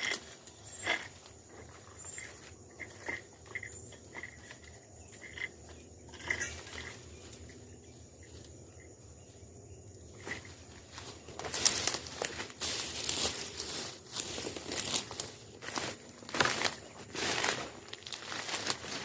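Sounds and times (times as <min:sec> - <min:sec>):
faint insects chirping: 0:00.0 - 0:19.0.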